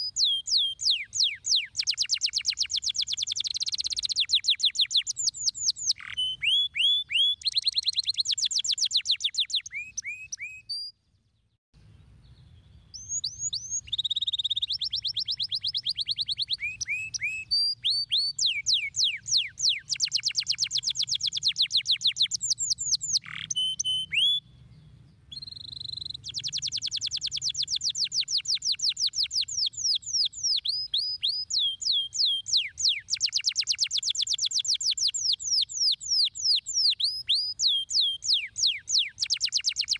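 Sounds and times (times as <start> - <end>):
canary singing trills: 0.0 - 11.0, 12.2 - 39.9.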